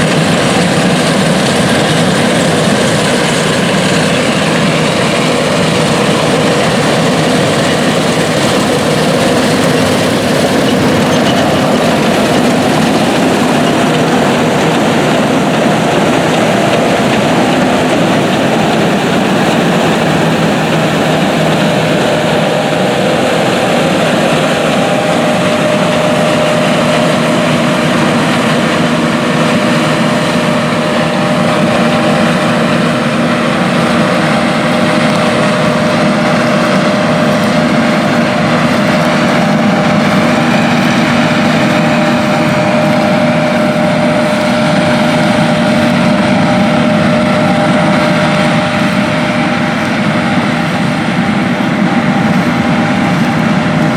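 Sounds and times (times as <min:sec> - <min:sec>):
heavy engine drone: 0:00.0 - 0:53.9
steady machinery whine: 0:00.0 - 0:53.9.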